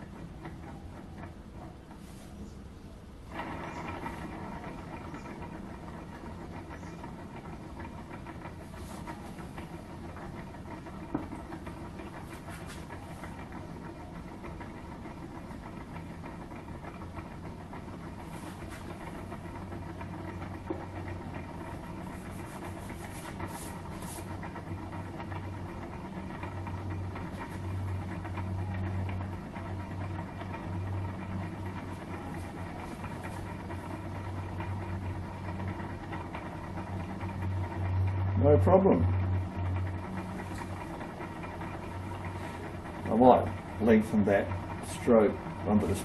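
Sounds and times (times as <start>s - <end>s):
engine rhythmic mechanical clatter: 0.0s - 46.0s
low hum: 0.0s - 46.0s.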